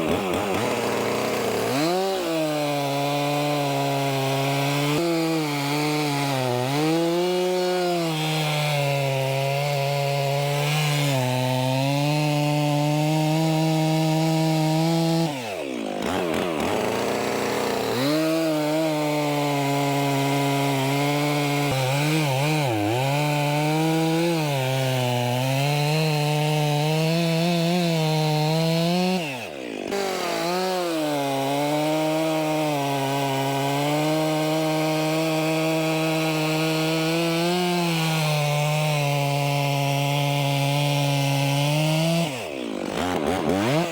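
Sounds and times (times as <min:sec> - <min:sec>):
chainsaw cutting logs: 0:00.0 - 0:43.9.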